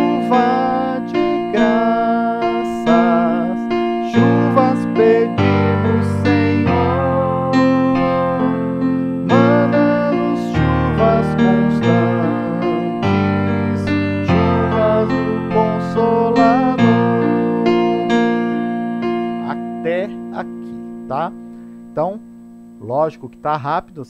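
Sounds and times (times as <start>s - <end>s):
electronic keyboard hymn chords: 0.0s - 24.0s.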